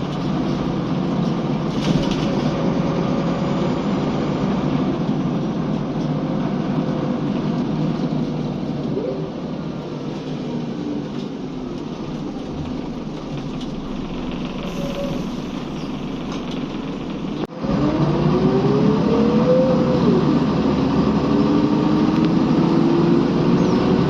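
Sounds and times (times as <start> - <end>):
bus engine running: 0.0 - 24.0
rising engine whine: 0.0 - 24.0.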